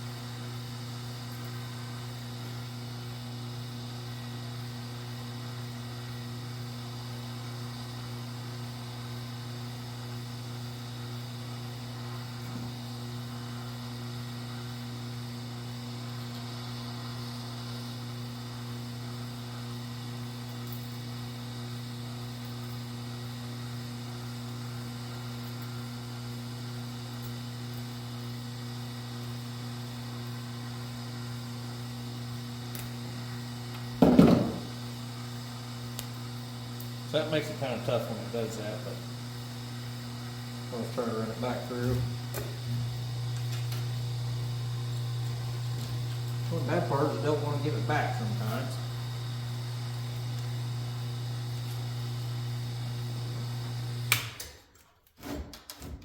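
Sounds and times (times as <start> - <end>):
electrical mains hum: 0.0 - 54.8.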